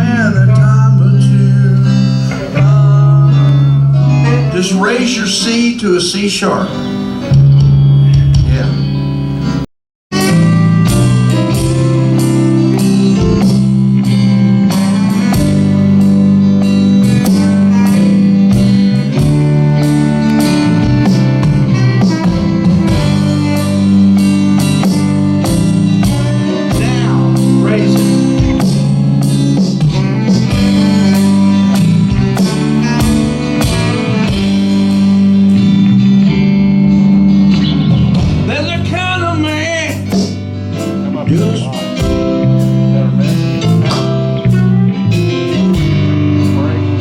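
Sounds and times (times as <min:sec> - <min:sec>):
electric guitar: 0:00.0 - 0:47.0
sustained bass notes: 0:00.0 - 0:47.0
drum kit steady beat: 0:04.1 - 0:09.2, 0:10.1 - 0:47.0.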